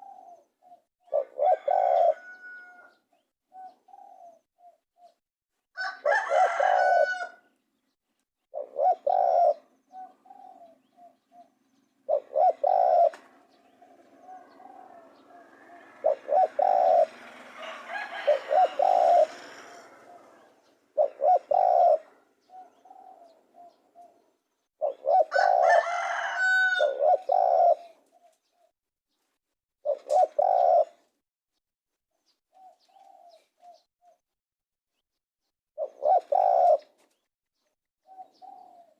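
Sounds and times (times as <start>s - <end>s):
dove cooing: 0.0s - 5.2s, 5.8s - 7.4s, 8.5s - 28.7s, 29.8s - 31.1s, 32.5s - 34.2s, 35.8s - 37.2s, 38.0s - 38.9s.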